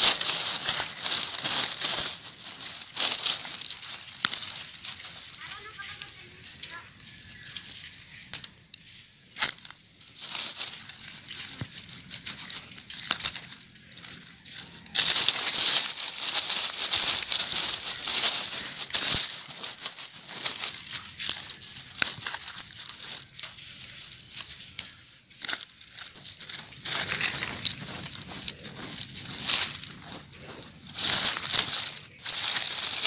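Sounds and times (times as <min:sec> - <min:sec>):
hands digging in dry soil: 0:00.0 - 0:33.0
leaves crackling and rustling: 0:00.0 - 0:33.0.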